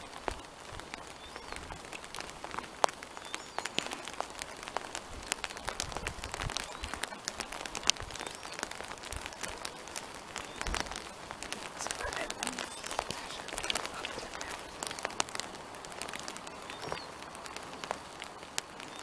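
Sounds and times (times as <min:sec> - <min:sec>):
faint rain hiss: 0:00.0 - 0:19.0
raindrop taps: 0:00.0 - 0:19.0.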